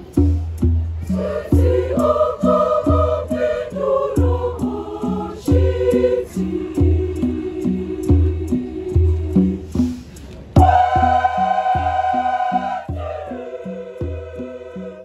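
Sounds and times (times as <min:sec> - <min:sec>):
conga drums beating: 0:00.0 - 0:10.0, 0:10.6 - 0:14.7
choir singing in harmony: 0:01.0 - 0:15.0.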